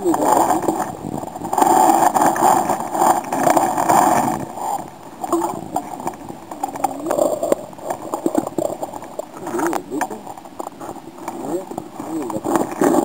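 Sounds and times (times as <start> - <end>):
muffled underwater river current: 0.0 - 13.0.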